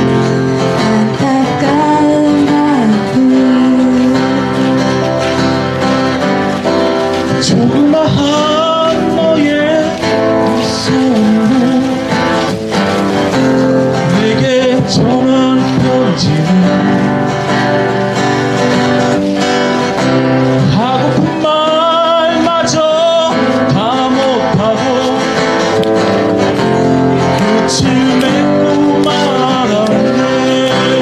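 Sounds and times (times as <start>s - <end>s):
person singing: 0.0s - 6.2s, 6.9s - 18.2s, 20.2s - 31.0s
acoustic guitar: 0.0s - 31.0s.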